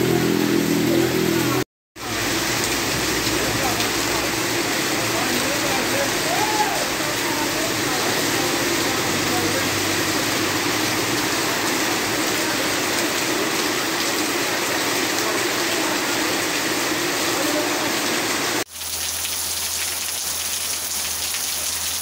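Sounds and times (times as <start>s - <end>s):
heavy rain and running water: 0.0s - 22.0s
rain pattering on foliage: 2.0s - 22.0s.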